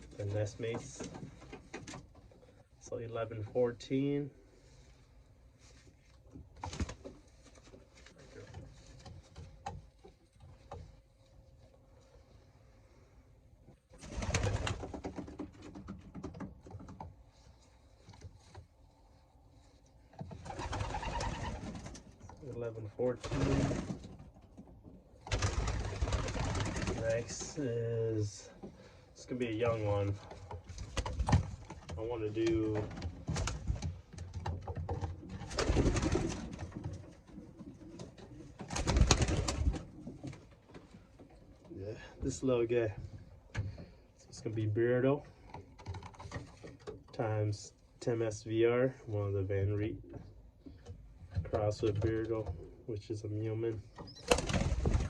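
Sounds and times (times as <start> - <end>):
rustling and clattering: 0.0 - 2.9, 4.5 - 22.5, 23.2 - 27.6, 28.2 - 44.4, 45.2 - 48.0, 53.8 - 55.0.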